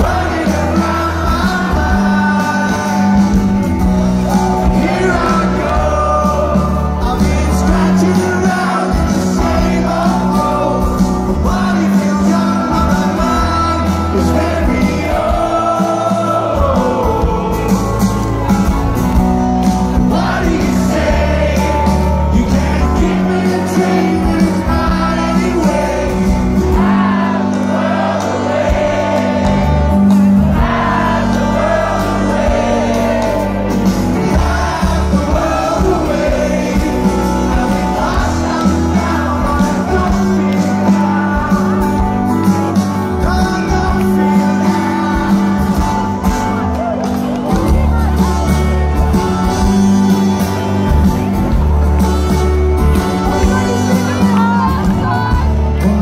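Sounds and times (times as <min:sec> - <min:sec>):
man singing lead vocal: 0:00.0 - 0:18.3, 0:20.0 - 0:29.8, 0:30.6 - 0:46.2, 0:53.2 - 0:56.0
live rock band playing: 0:00.0 - 0:56.0.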